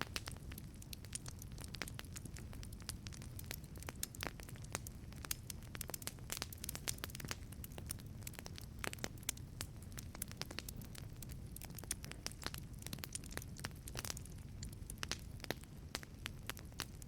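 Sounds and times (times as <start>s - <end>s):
low rumble of burning fire: 0.0s - 17.0s
wood fire crackling and popping: 0.0s - 17.0s.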